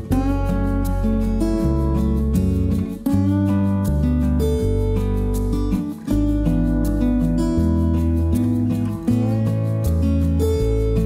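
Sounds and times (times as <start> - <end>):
bass notes: 0.0 - 11.0
strummed acoustic guitar: 0.0 - 11.0.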